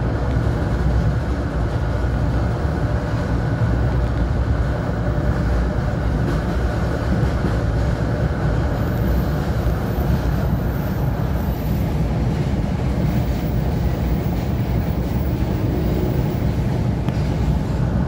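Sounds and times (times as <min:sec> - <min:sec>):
train running at speed: 0:00.0 - 0:18.0.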